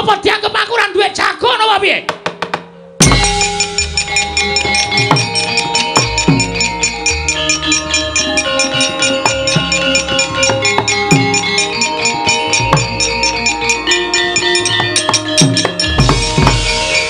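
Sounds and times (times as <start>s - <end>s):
ringing bronze metallophones: 3.0s - 17.0s
sharp metal strikes: 3.0s - 17.0s.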